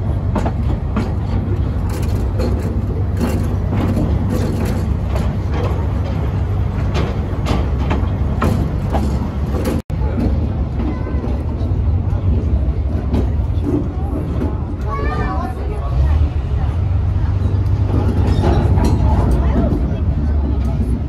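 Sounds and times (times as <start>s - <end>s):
wheels knocking and rattling: 0.0s - 16.0s, 17.0s - 21.0s
train carriage rumbling: 0.0s - 21.0s.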